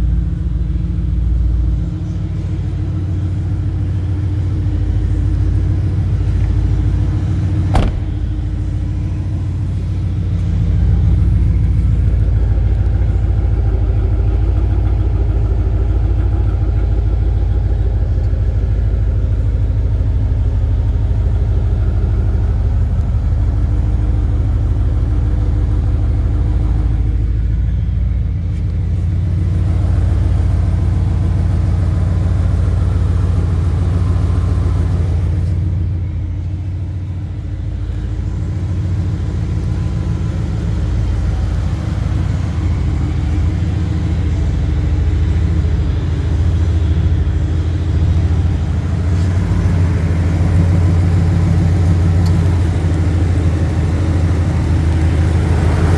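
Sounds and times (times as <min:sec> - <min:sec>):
car engine with deep exhaust: 0:00.0 - 0:55.9.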